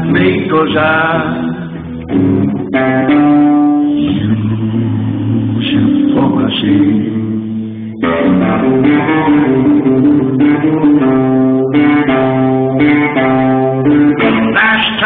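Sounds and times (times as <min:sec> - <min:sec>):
electric guitar blues riff: 0:00.0 - 0:15.0
person singing: 0:00.0 - 0:15.0.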